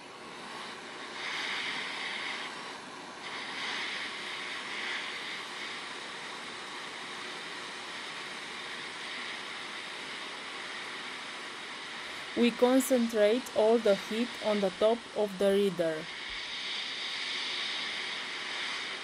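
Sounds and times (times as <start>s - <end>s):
hot air station hiss: 0.0s - 19.0s.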